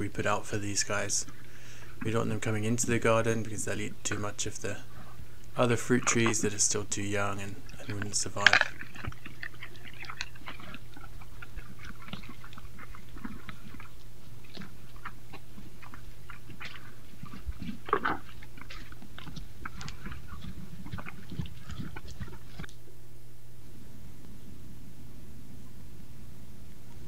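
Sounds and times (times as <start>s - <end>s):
deer crunching apples: 0.0s - 22.8s
low electrical hum: 0.0s - 27.0s.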